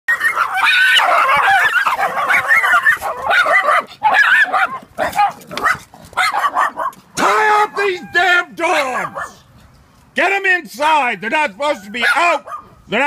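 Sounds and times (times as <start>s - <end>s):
small dogs barking and yapping: 0.1s - 9.5s, 11.6s - 12.9s.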